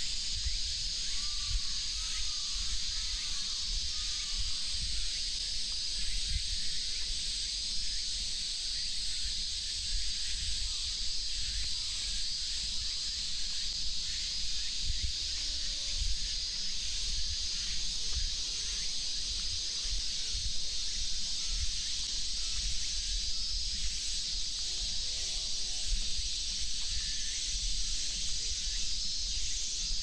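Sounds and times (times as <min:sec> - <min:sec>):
cicadas droning: 0:00.0 - 0:30.0.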